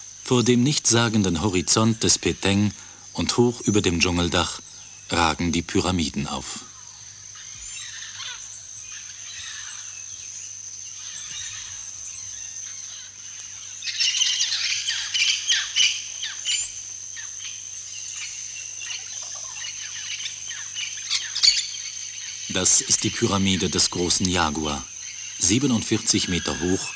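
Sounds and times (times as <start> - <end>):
birds squawking and chattering: 0.0 - 26.9.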